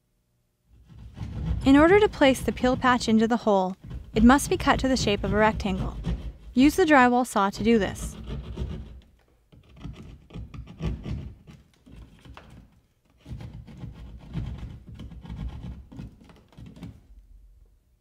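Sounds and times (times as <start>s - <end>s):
hand saw cutting drywall: 0.7s - 17.0s.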